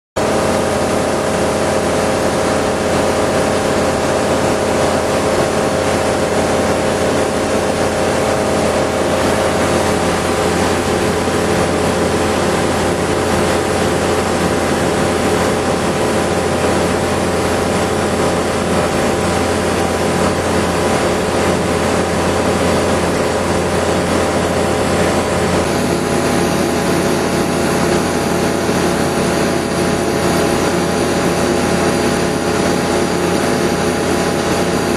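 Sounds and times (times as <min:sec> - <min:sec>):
light aircraft engine droning: 0:00.2 - 0:34.9.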